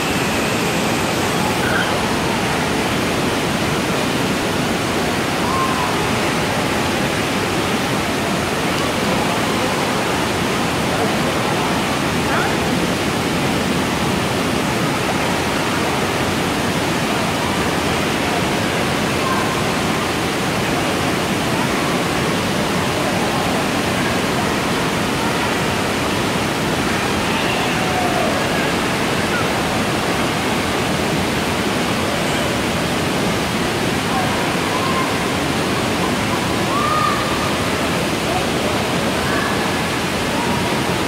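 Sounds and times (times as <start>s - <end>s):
water rushing: 0.0s - 41.0s.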